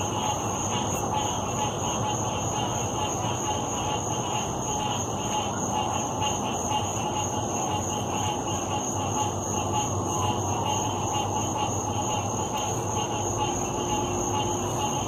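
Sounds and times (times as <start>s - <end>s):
frogs calling: 0.0s - 15.0s
steady high-pitched tone: 0.0s - 15.0s.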